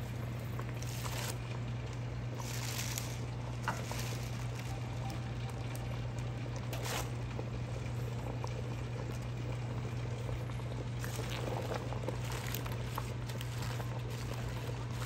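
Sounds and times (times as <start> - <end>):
steady low hum: 0.0 - 15.0
water boiling in a pot: 0.0 - 15.0.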